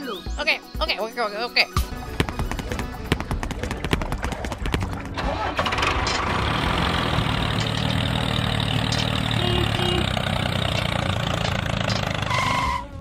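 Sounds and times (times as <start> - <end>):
tractor engine running: 1.9 - 13.0.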